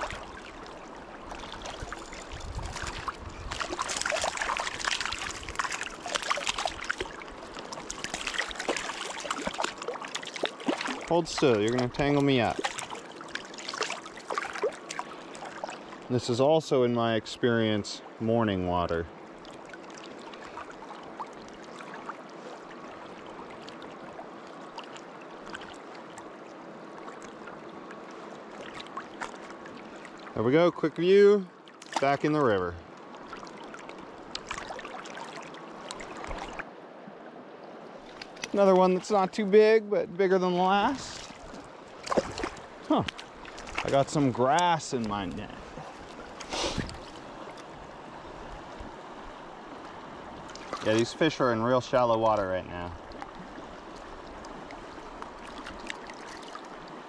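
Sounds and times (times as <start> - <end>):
river current flowing: 0.0 - 57.0
water splashing and sloshing: 0.0 - 57.0.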